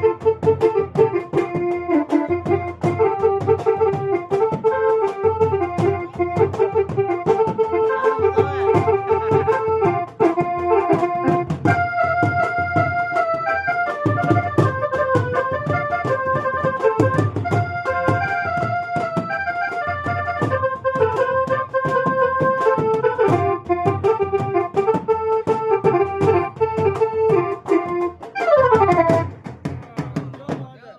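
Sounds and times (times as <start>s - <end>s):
ringtone melody on keyboard: 0.0s - 29.3s
steady beat: 0.0s - 30.9s.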